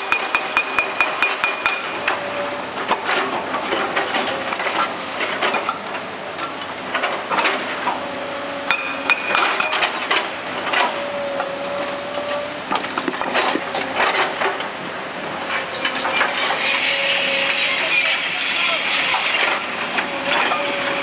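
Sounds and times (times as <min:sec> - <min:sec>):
hydraulic rock breaker hammering: 0:00.0 - 0:21.0.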